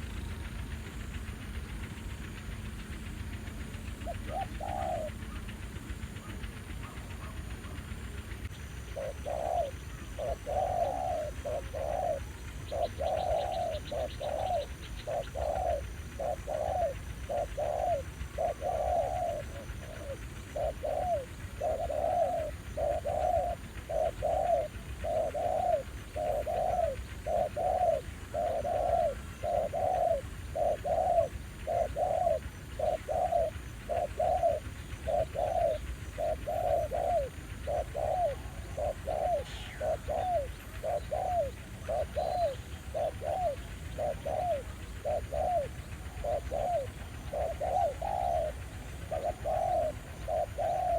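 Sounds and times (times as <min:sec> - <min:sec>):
dove cooing: 0:00.0 - 0:00.6, 0:02.2 - 0:50.9.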